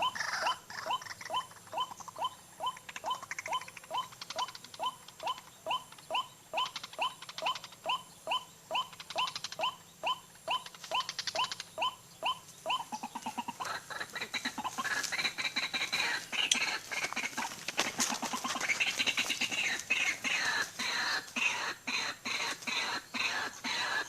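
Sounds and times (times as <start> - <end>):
bird calling kwak notes: 0.0 - 24.0.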